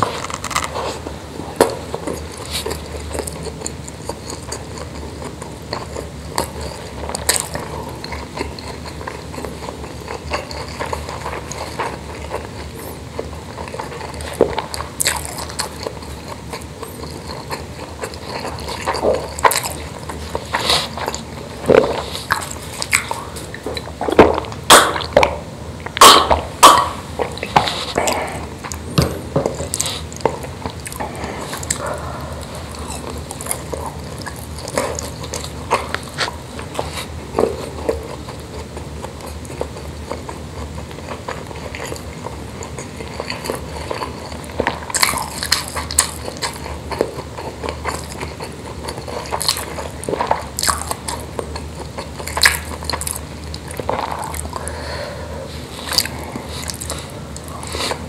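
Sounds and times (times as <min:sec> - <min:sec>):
wet chewing and mouth smacks: 0:00.0 - 0:58.0.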